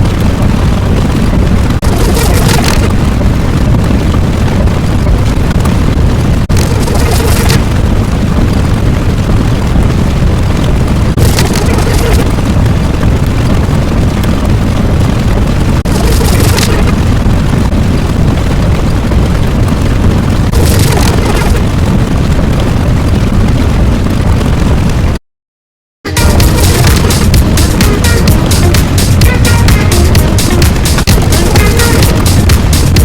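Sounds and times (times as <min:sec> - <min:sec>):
loud continuous rumbling: 0:00.0 - 0:25.2, 0:26.0 - 0:33.0.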